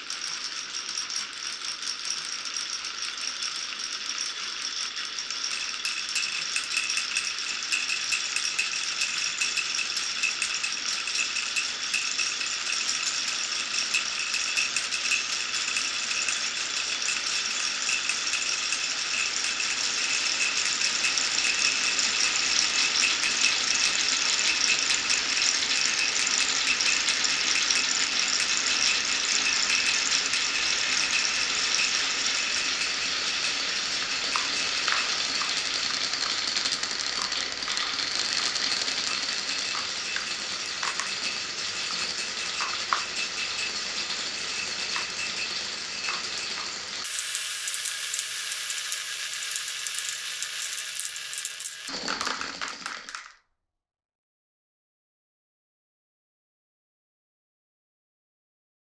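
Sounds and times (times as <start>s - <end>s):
marbles rattling on wooden tracks: 0.0s - 53.3s.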